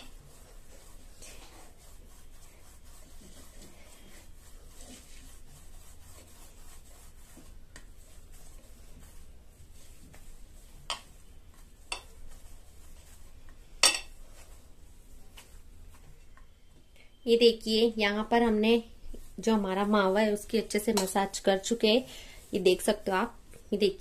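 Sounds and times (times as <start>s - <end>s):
hands rubbing dough on plate: 0.0s - 24.0s.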